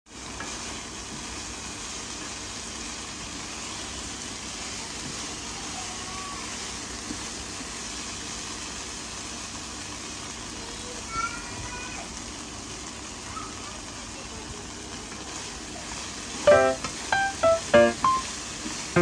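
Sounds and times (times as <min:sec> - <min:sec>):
tofu sizzling in hot oil: 0:00.1 - 0:19.0.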